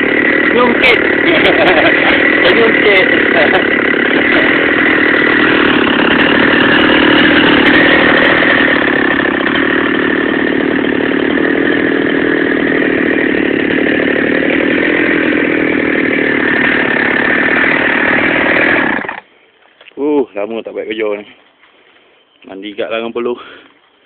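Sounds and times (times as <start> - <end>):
chainsaw engine running: 0.0 - 19.3.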